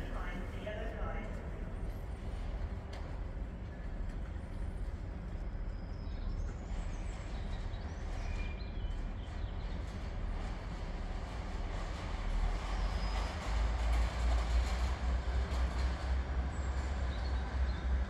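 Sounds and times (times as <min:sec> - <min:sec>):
distant train rumble: 0:00.0 - 0:18.0.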